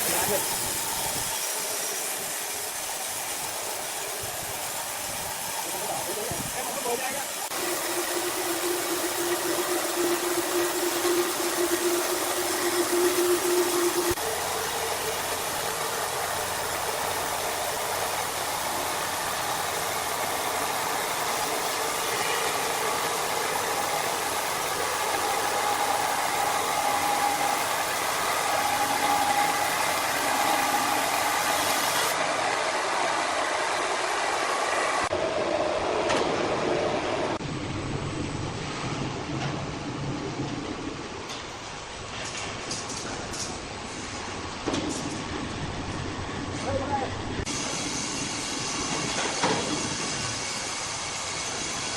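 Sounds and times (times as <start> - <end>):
wood-processing machinery running: 0.0 - 51.9.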